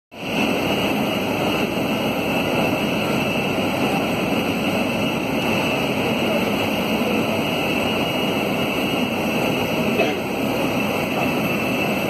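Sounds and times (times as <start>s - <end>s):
constant high whine: 0.1s - 12.0s
jet airliner cabin rush: 0.2s - 12.0s.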